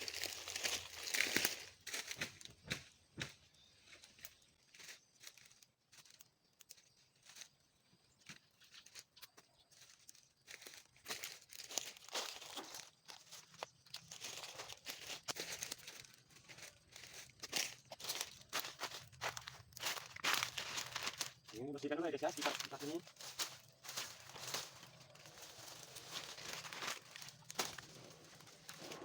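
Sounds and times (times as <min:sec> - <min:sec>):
dry leaves crackling and rustling: 0:00.0 - 0:02.6, 0:04.0 - 0:07.5, 0:09.7 - 0:29.0.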